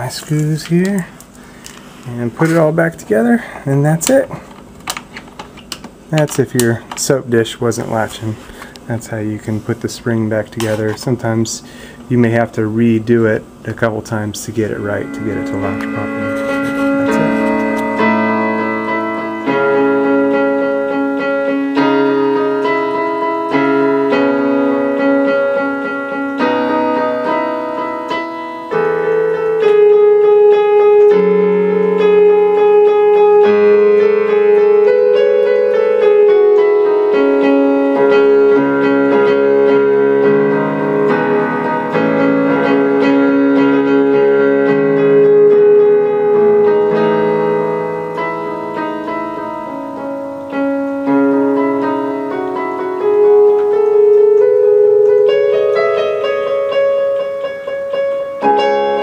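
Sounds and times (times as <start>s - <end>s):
piano chords: 0.0s - 59.0s.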